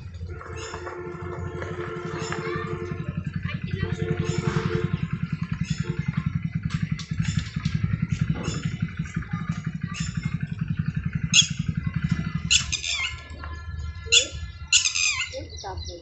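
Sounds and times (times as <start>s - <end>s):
birds chirping: 0.0s - 16.0s
small engine puttering: 0.0s - 16.0s.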